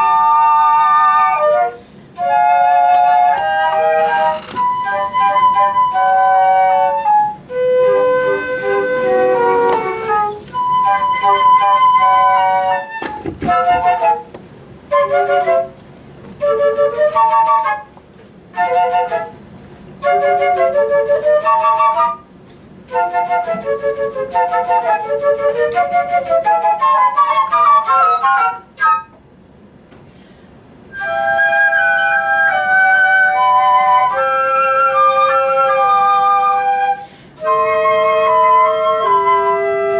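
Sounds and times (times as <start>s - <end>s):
flute melody: 0.0s - 29.3s, 30.9s - 39.9s.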